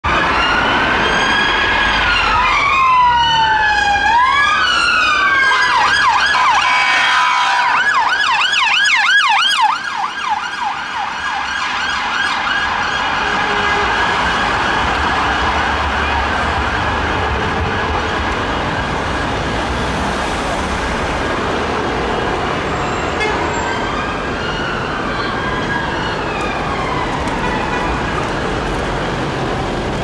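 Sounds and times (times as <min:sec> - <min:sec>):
police sirens wailing and yelping: 0:00.0 - 0:30.0
traffic noise: 0:00.0 - 0:30.0.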